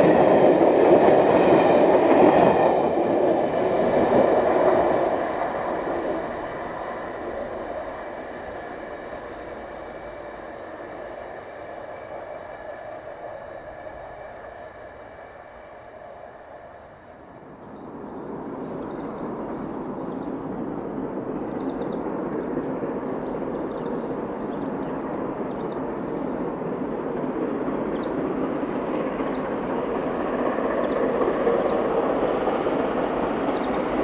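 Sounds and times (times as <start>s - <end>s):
steam locomotives approaching: 0.0s - 34.0s.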